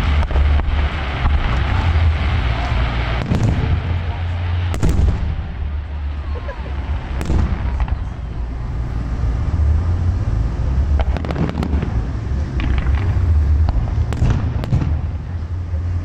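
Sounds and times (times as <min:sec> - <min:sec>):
firework cracking bangs: 0:00.0 - 0:16.0
low rumble of firework bursts: 0:00.0 - 0:16.0.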